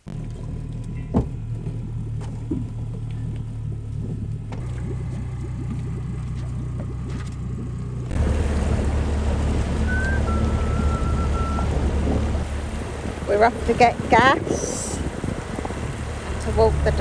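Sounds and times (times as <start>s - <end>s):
boat motor running rough: 0.0s - 17.0s
motor humming: 0.0s - 17.0s.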